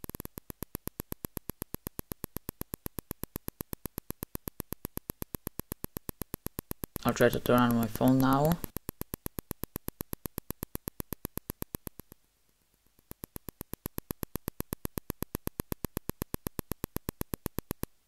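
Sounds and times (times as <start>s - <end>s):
rapid electrical clicks: 0.0s - 12.2s, 12.8s - 18.0s.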